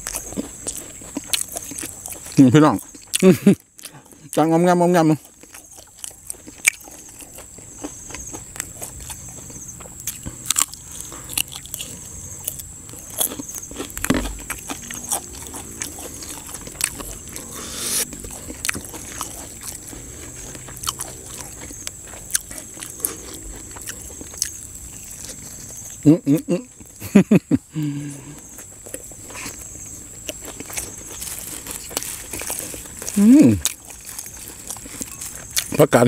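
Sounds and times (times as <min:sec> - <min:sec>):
person chewing and crunching: 0:00.0 - 0:36.0.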